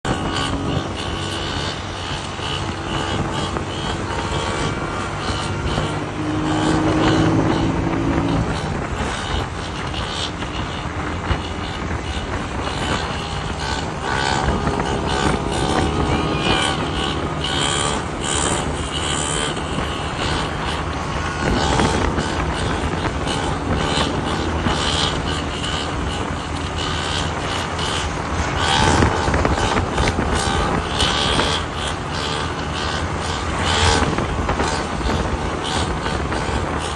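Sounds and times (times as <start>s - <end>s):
motor vehicle noise: 0.0s - 36.9s.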